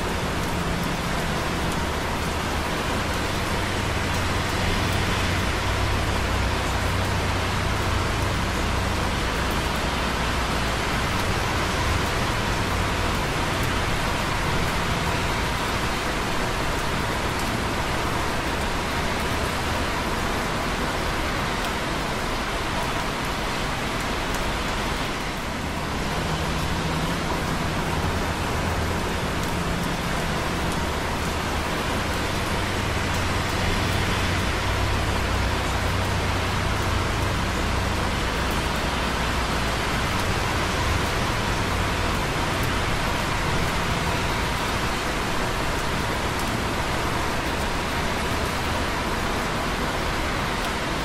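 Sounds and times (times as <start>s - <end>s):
rain dripping on concrete: 0.0s - 51.0s
traffic on wet roads: 0.0s - 51.0s.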